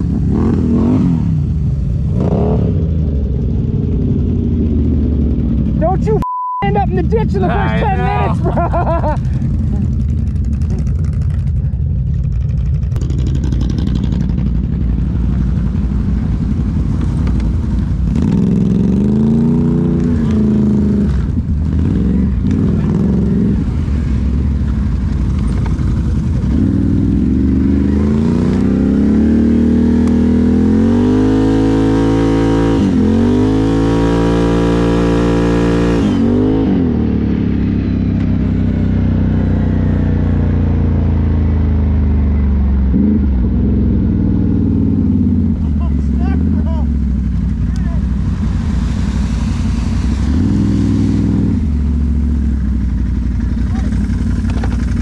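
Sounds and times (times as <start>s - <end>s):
atv engine revving: 0.0s - 6.2s, 6.8s - 55.0s.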